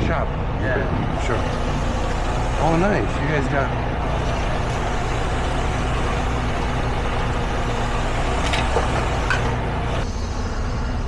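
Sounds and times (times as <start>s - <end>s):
large vehicle engine idling: 0.0s - 11.0s.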